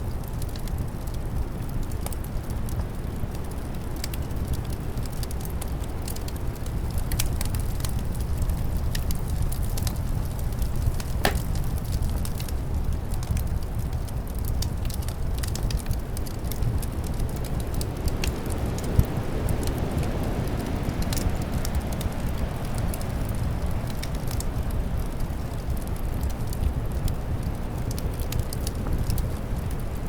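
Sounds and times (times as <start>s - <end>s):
low rumble of wind: 0.0s - 30.0s
wood fire crackling: 0.0s - 30.0s.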